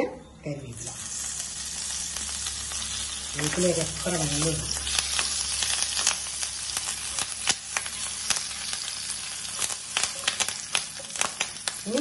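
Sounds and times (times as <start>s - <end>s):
leaves sizzling in hot oil: 0.8s - 12.0s.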